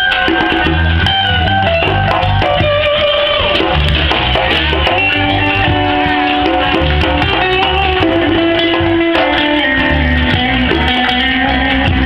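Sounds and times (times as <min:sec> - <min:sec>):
live reggae band: 0:00.0 - 0:12.0.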